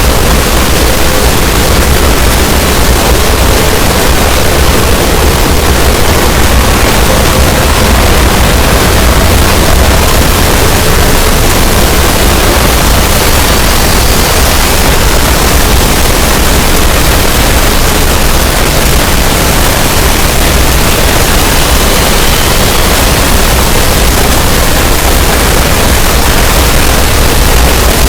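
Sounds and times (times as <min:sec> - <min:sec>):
heavy low rumble: 0:00.0 - 0:28.0
loud broadband noise: 0:00.0 - 0:28.0.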